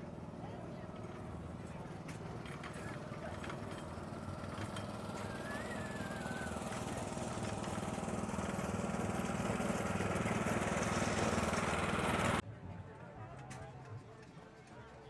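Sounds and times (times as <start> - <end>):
tractor engine rumbling: 0.0 - 12.4.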